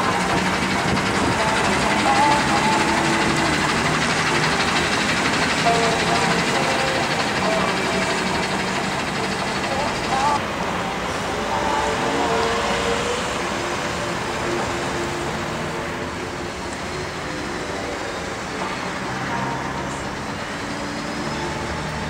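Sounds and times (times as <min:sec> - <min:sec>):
bus engine driving slowly: 0:00.0 - 0:22.0
road noise: 0:00.0 - 0:22.0.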